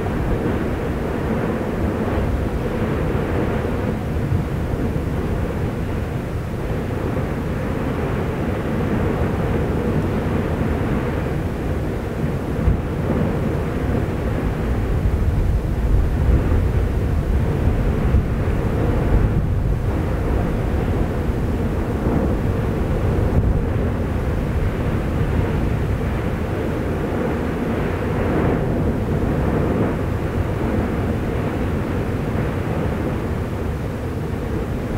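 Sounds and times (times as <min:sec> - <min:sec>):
volcano rumbling: 0:00.0 - 0:34.9.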